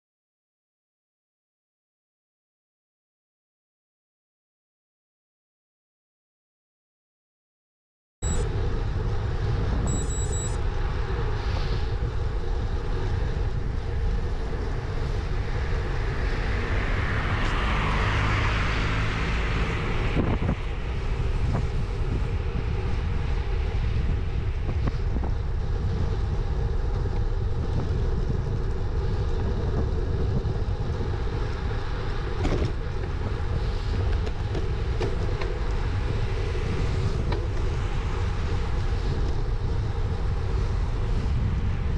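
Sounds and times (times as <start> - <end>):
road noise rumble: 8.2 - 41.9
wind buffeting microphone: 8.2 - 41.9.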